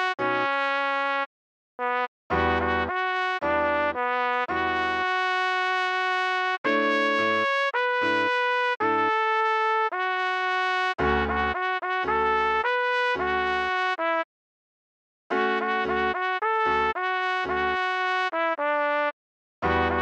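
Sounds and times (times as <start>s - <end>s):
trumpet playing a melody: 0.0s - 14.3s, 15.3s - 20.0s.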